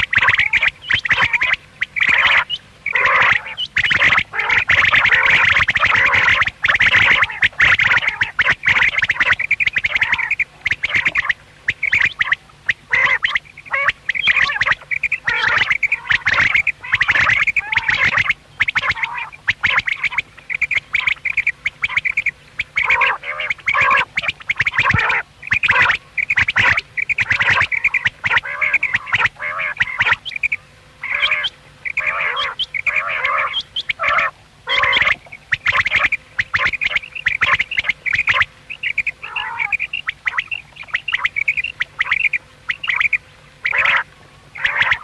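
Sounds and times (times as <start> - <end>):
quails calling: 0.0 - 45.0.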